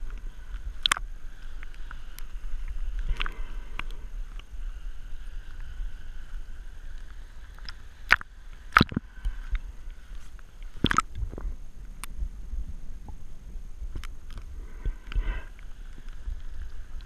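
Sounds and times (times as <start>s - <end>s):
faint hissing inhale: 0.0s - 17.0s
underwater exhaust bubbles: 0.0s - 17.0s.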